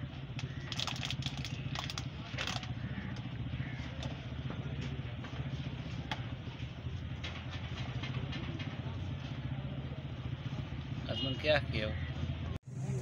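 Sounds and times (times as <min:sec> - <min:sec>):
engine idling: 0:00.0 - 0:11.2.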